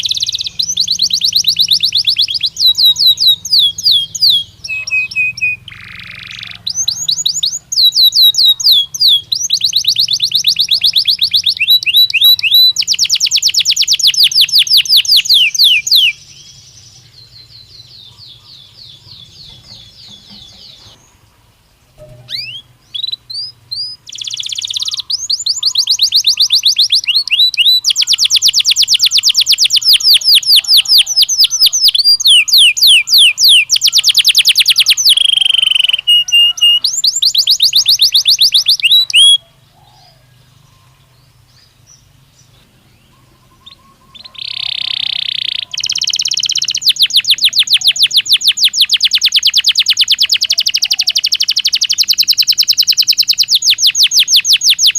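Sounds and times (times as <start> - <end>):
canary singing rapid trills: 0.0 - 42.2, 42.9 - 54.9.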